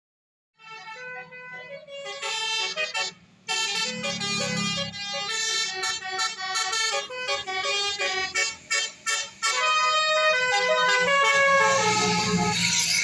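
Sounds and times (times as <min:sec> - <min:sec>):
passing vehicle noise: 0:00.6 - 0:13.0
electric trumpet horns playing a tune: 0:02.0 - 0:13.0.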